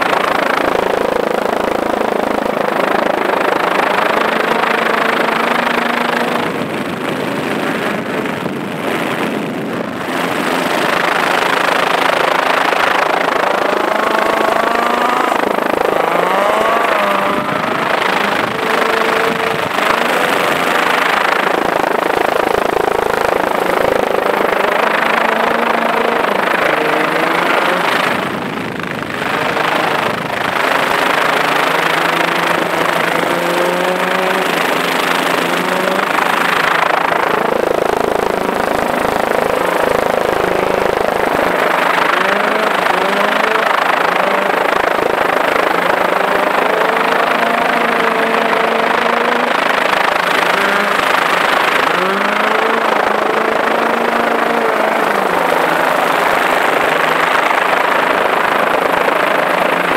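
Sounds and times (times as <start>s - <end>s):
rally car engine revving: 0.0s - 59.9s
steady rush of noise: 0.0s - 59.9s.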